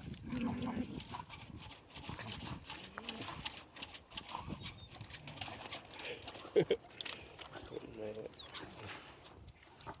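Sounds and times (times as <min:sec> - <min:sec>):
dog feet clicking and scuffing: 0:01.1 - 0:10.0.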